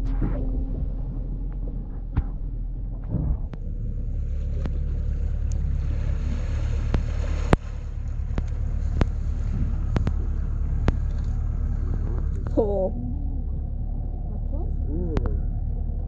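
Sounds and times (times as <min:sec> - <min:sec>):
boat motor running: 0:00.0 - 0:16.0
wind buffeting microphone: 0:00.0 - 0:16.0.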